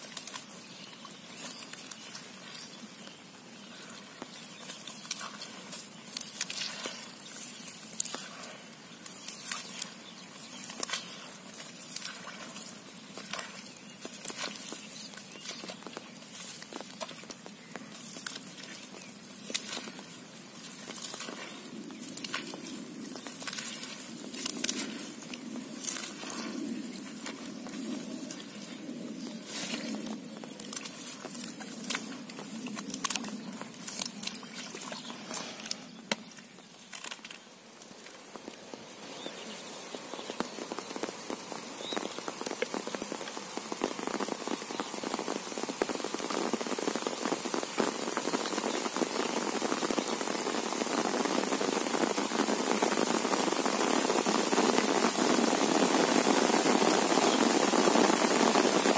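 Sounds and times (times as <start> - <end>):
rain on an umbrella: 0.0 - 58.9.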